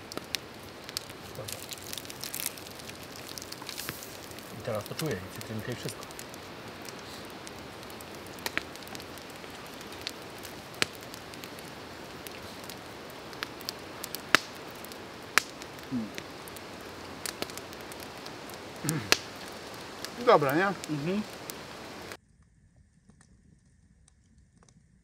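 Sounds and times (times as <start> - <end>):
sharp fire pops: 0.0 - 22.2
steady background hiss: 0.0 - 22.2
wood campfire crackling: 0.0 - 22.2.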